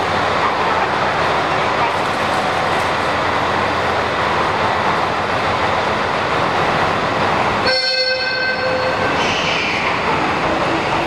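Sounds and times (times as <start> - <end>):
electric train rolling: 0.0 - 11.0.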